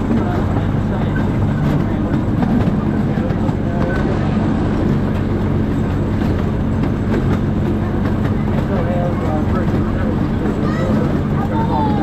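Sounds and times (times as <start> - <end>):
miniature train engine hum: 0.0 - 12.0
wheels clicking on track: 0.0 - 12.0.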